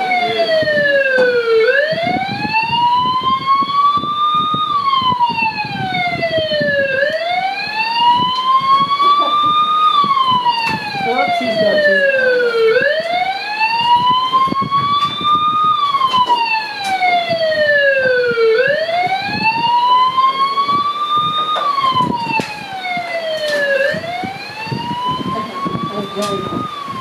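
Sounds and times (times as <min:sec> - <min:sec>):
wailing siren: 0:00.0 - 0:27.0.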